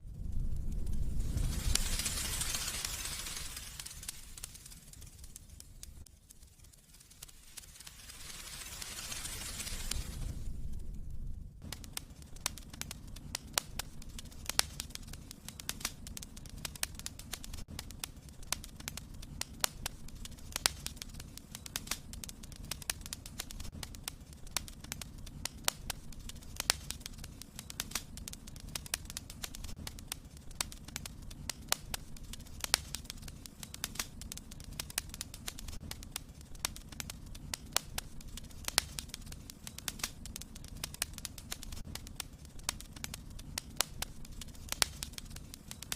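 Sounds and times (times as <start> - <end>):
fire crackling and popping: 0.0 - 45.9
low rumble of flames: 0.0 - 45.9.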